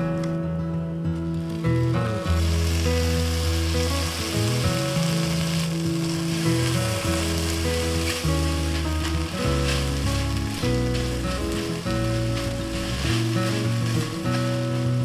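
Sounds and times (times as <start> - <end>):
background music with low notes: 0.0 - 15.0
egg and tomato sizzling: 1.3 - 15.0.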